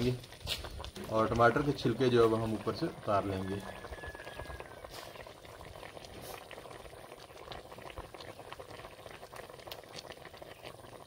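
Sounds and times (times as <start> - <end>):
chicken boiling with bubbling pops: 0.0 - 11.0.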